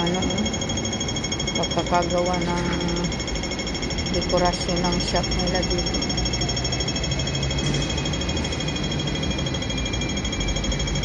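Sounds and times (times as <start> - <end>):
high-pitched pulsing tones: 0.0 - 11.0.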